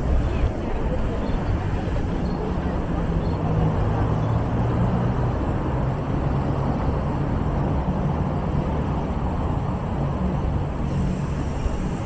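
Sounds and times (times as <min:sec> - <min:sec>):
low engine hum: 0:00.0 - 0:12.0
road noise: 0:00.0 - 0:12.0.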